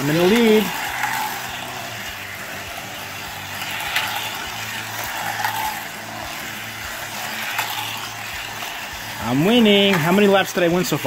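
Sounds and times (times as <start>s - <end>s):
slot car motors whirring: 0.0s - 11.0s.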